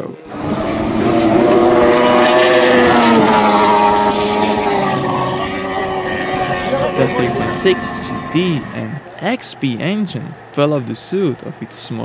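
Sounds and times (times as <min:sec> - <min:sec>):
racing boat engine passing: 0:00.2 - 0:11.4.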